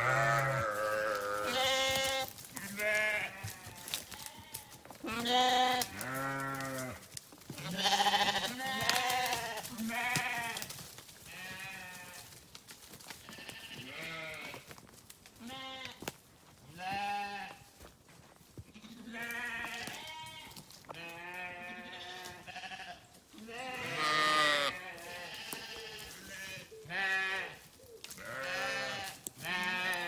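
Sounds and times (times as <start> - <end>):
sheep bleating: 0.0 - 7.0, 7.6 - 10.7, 11.3 - 12.2, 13.2 - 14.6, 15.4 - 16.0, 16.7 - 17.6, 18.7 - 27.6, 28.2 - 30.0.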